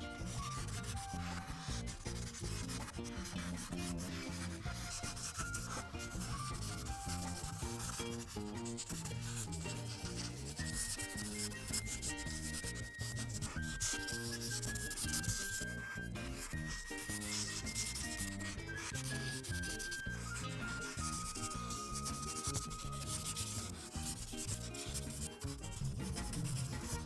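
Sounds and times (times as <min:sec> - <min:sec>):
marker scratching on paper: 0:00.0 - 0:27.0.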